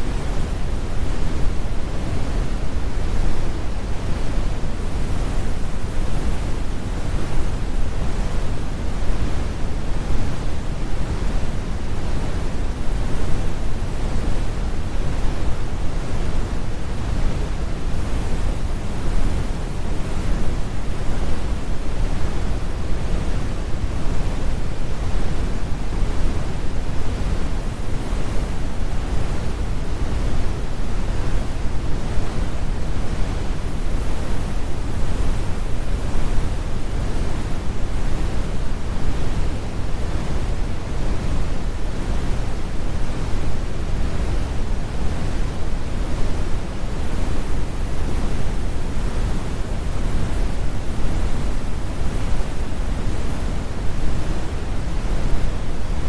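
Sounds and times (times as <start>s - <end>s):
brown noise rumble: 0.0s - 56.0s.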